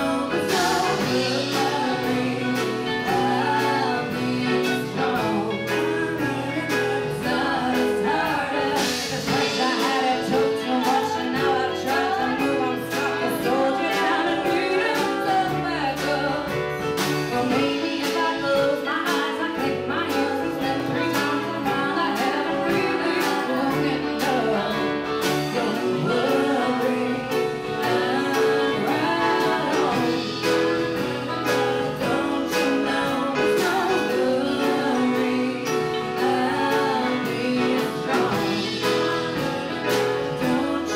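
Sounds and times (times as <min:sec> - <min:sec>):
guitar accompaniment: 0:00.0 - 0:40.9
women singing: 0:00.0 - 0:40.9.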